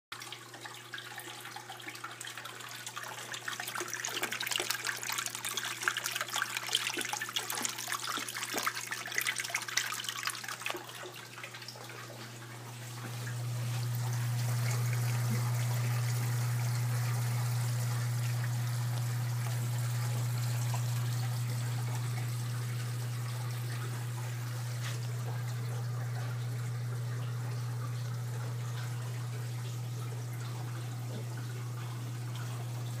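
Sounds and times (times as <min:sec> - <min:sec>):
water splashing and trickling: 0:00.1 - 0:33.0
low pump hum: 0:00.2 - 0:33.0.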